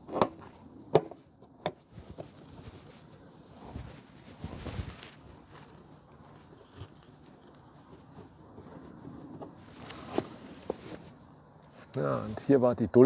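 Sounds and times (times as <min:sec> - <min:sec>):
light rustling: 0:00.1 - 0:12.5.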